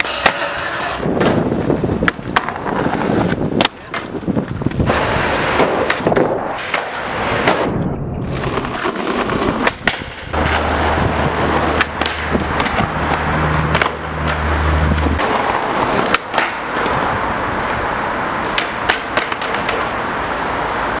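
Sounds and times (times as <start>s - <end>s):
skateboard clacks and knocks: 0.0s - 20.1s
skateboard wheels rolling on pavement: 0.0s - 21.0s.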